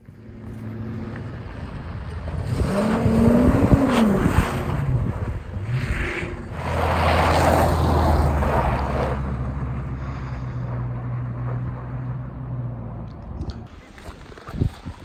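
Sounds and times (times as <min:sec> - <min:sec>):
car engine accelerating: 0:00.0 - 0:14.5.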